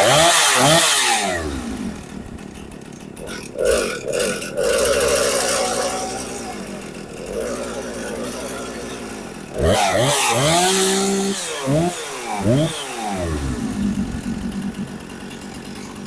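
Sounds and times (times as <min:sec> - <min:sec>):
chainsaw engine idling and revving: 0:00.0 - 0:16.0.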